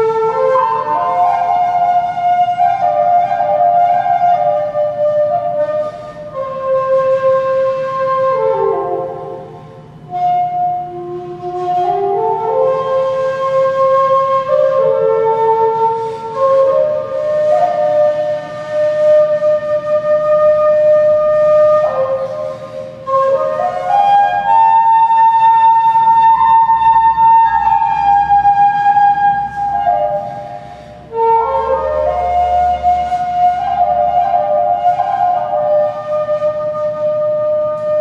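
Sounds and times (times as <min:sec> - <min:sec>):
flute playing slow melody: 0:00.0 - 0:38.0.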